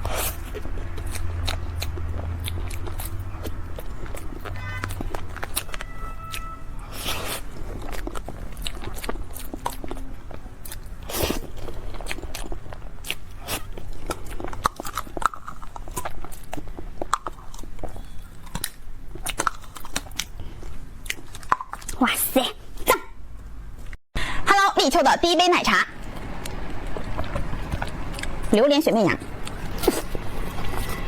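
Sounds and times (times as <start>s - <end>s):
person chewing with crunches: 0.0s - 22.0s, 26.0s - 28.5s, 29.2s - 31.0s.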